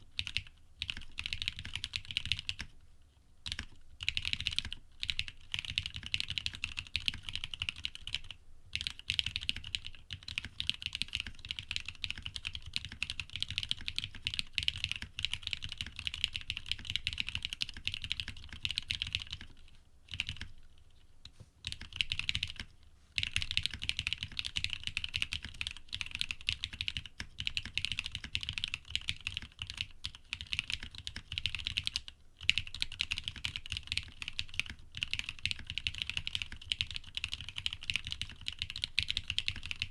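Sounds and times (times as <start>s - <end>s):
fast typing on mechanical keyboard: 0.2s - 2.7s, 3.5s - 20.5s, 21.6s - 39.9s.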